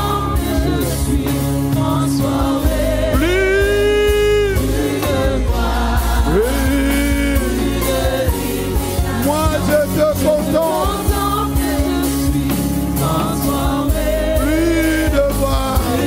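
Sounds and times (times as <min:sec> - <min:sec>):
drums: 0:00.0 - 0:16.0
gospel singing: 0:00.0 - 0:16.0
keyboard: 0:00.0 - 0:16.0.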